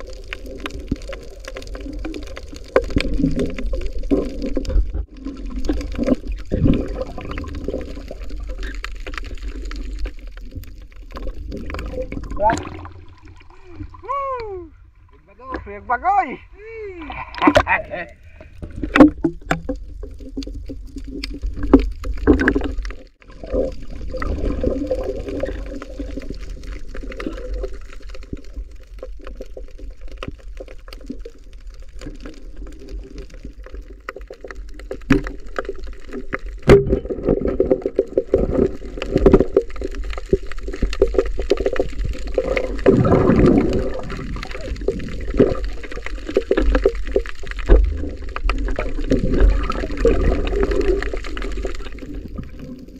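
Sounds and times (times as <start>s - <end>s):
gurgling water movement: 0.0s - 15.6s, 17.0s - 52.9s
underwater low rumble: 0.0s - 15.7s, 17.0s - 52.9s.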